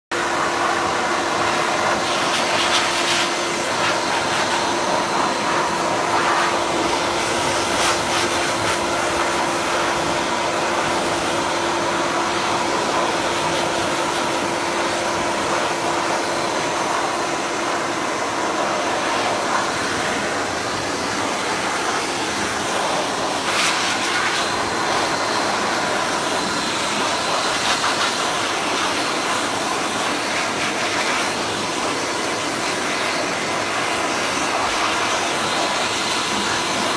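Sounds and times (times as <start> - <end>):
blow dryer blowing: 0.1 - 36.9.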